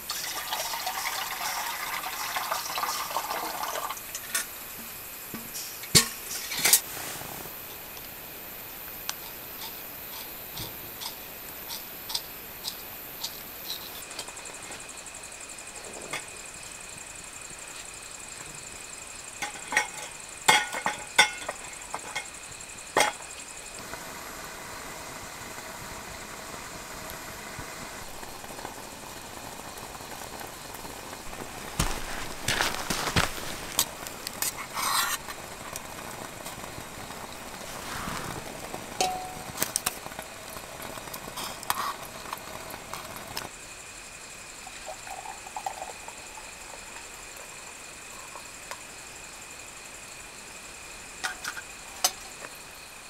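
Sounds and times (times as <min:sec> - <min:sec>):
high-pitched hiss: 0:00.0 - 0:53.0.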